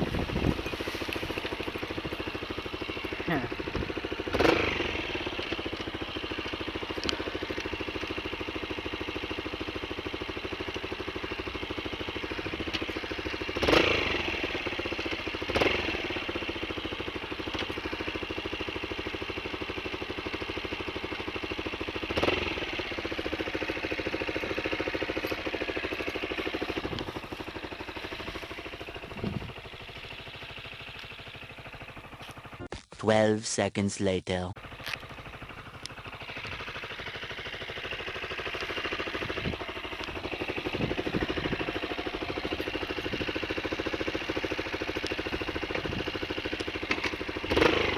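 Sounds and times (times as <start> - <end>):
motorcycle engine idling: 0.0 - 32.7, 34.6 - 47.9.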